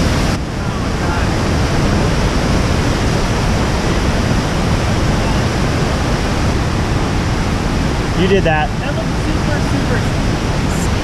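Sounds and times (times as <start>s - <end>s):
whitewater rushing over boulders: 0.0s - 11.0s.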